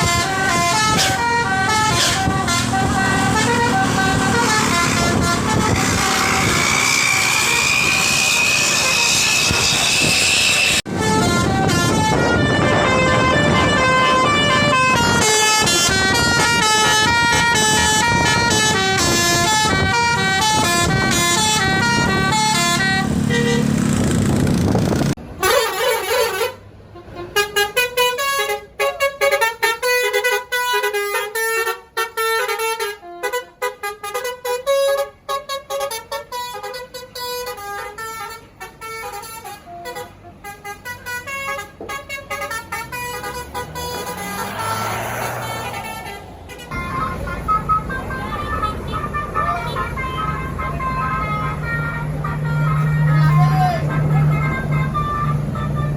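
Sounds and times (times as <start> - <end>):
musical air horn melody: 0.0 - 24.0, 25.2 - 55.9
road noise: 0.0 - 55.9.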